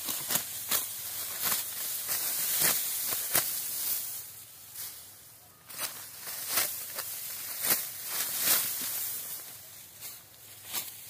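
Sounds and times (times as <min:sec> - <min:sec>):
sickle cutting dry wheat stalks: 0:00.0 - 0:11.0.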